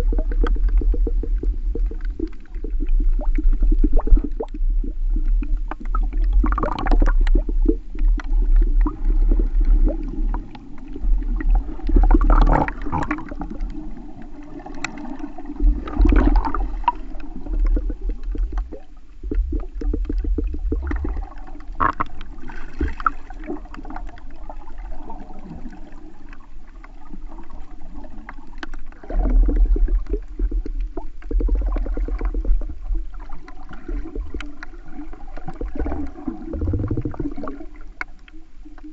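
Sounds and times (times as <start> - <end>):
low uneven rumble: 0.0 - 38.9
underwater water sloshing and gurgling: 0.0 - 38.9.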